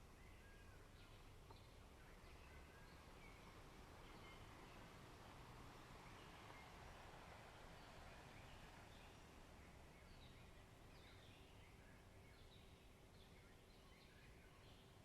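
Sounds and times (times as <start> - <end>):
soft steady background wash: 0.0 - 15.0.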